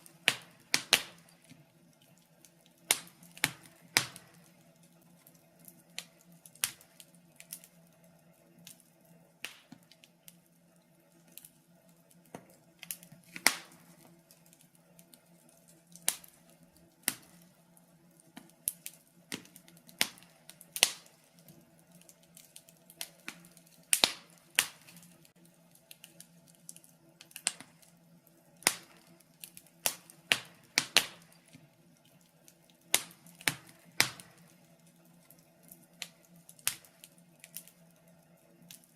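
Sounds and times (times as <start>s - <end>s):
faint steady hum: 0.0s - 38.9s
wood fire crackling and popping: 0.0s - 38.9s.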